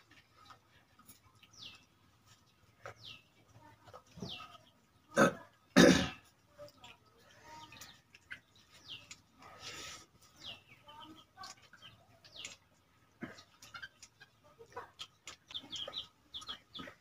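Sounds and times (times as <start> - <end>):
people eating from steel bowls: 0.0 - 17.0.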